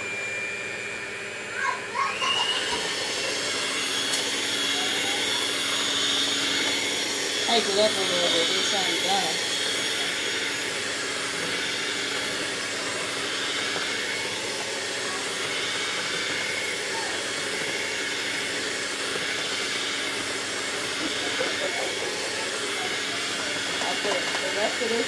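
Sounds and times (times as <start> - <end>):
electric hand mixer whirring: 0.0 - 25.0.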